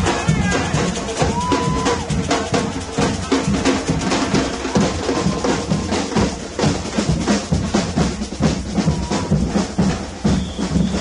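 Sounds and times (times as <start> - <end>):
marching bass and snare drums: 0.0 - 11.0.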